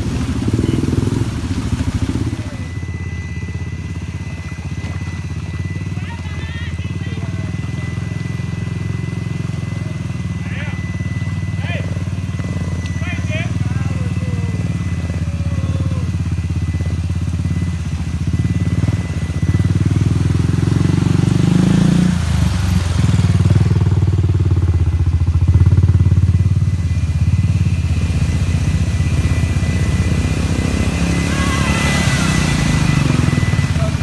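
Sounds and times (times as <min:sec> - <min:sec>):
muddy water splashing: 0:00.0 - 0:06.0, 0:07.2 - 0:26.0, 0:27.4 - 0:34.0
quad bike engine running: 0:00.0 - 0:34.0.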